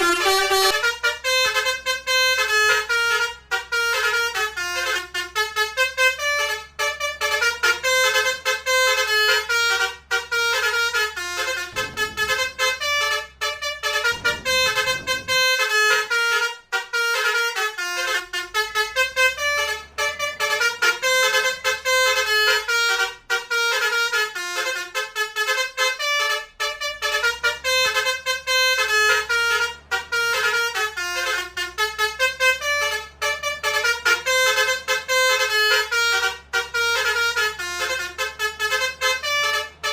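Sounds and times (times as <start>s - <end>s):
bus musical horn melody: 0.0s - 39.9s.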